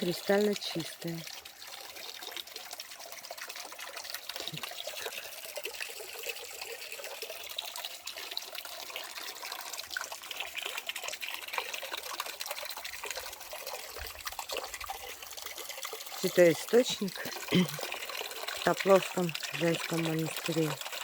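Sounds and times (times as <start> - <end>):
spring water trickling: 0.0 - 21.0.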